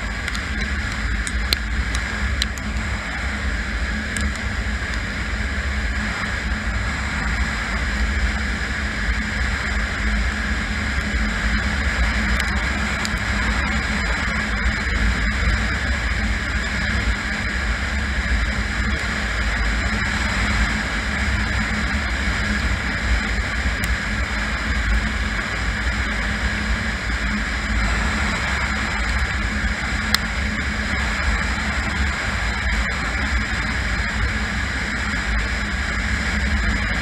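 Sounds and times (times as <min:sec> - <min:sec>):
rushing rumble: 0:00.0 - 0:37.0.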